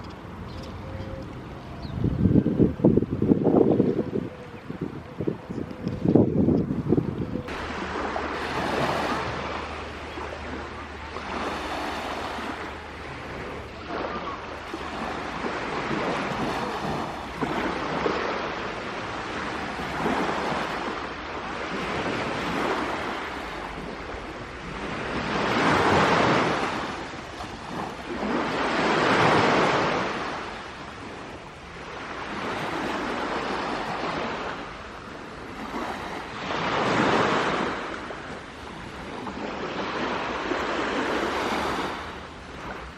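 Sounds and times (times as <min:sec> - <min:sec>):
sea waves washing onto shore: 0:07.5 - 0:42.9.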